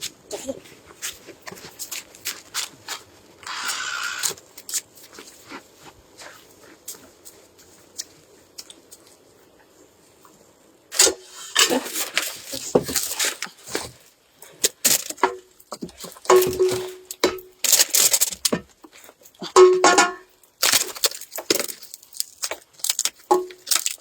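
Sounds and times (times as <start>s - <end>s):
objects rustling and clattering: 0.0s - 24.0s.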